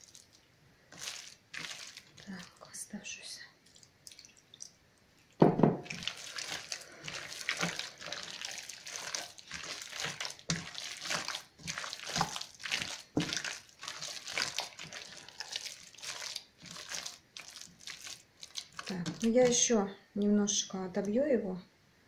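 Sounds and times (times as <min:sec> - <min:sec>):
wet squelching of kneaded mince: 0:00.0 - 0:21.2.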